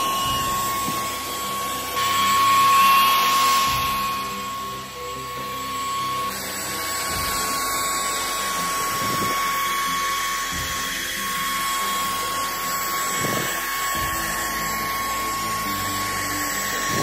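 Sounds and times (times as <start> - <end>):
vacuum motor whine and suction hiss: 0.0 - 17.0.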